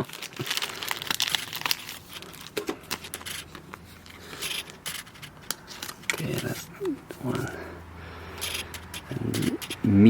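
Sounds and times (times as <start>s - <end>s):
plastic card sleeve crinkling: 0.0s - 7.7s, 8.3s - 10.0s.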